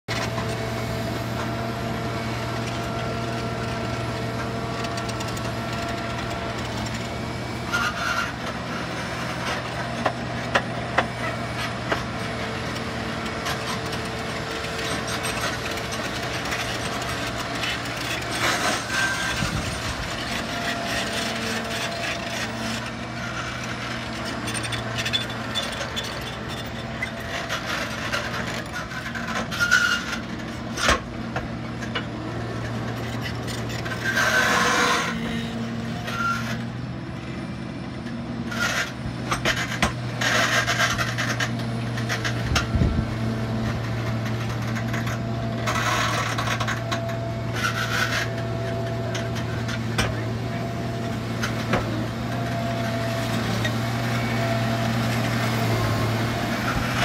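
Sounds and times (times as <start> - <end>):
diesel engine running: 0.0 - 57.0
bucket and tracks clanking: 0.1 - 36.7, 38.0 - 57.0.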